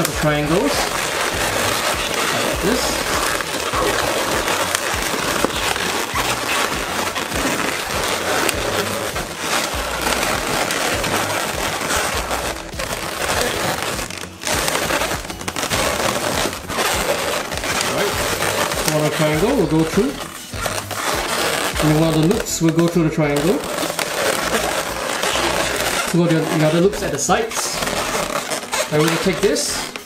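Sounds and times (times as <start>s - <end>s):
latex balloons rubbing together: 0.0s - 30.0s.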